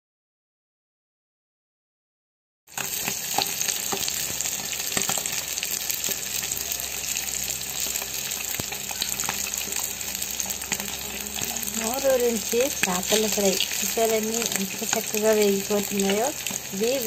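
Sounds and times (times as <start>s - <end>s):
fish sizzling in hot oil: 2.7s - 17.0s.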